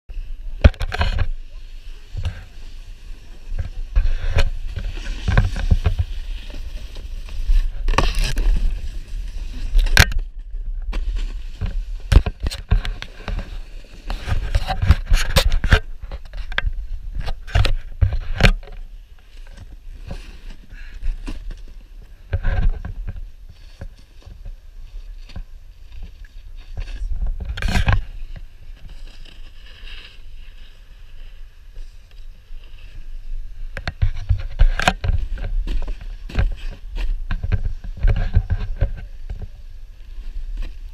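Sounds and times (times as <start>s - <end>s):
snowboard scraping over snow: 0.1s - 19.1s, 19.7s - 40.9s
wind rumbling on microphone: 0.1s - 29.6s, 30.2s - 40.9s.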